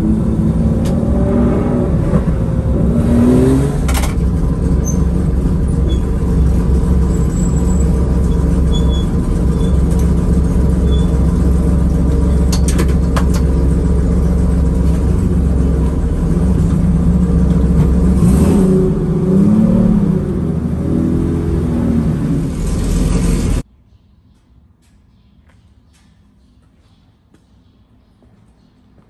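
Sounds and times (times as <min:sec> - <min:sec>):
car engine running at low revs: 0:00.0 - 0:23.6.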